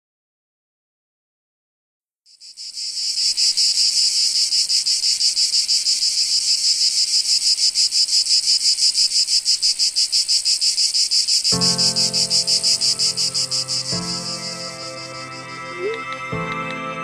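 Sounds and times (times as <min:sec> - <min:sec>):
insects chirring: 0:02.3 - 0:16.0.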